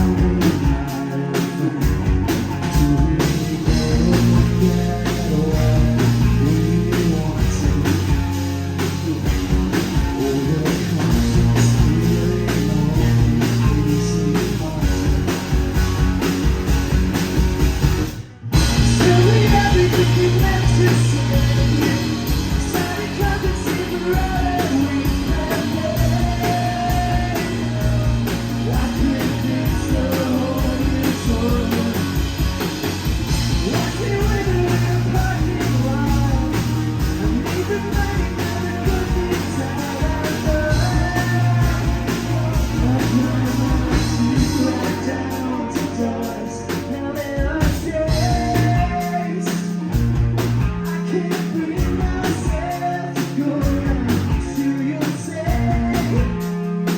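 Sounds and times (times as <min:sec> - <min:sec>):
heavy rock band playing: 0:00.0 - 0:56.9
person singing: 0:02.6 - 0:08.3, 0:08.9 - 0:15.5, 0:18.6 - 0:32.5, 0:33.4 - 0:56.9.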